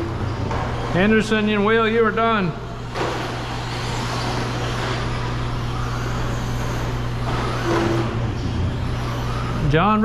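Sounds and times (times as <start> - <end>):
rc trucks motors and tyres rushing: 0.0 - 1.2, 2.8 - 10.0.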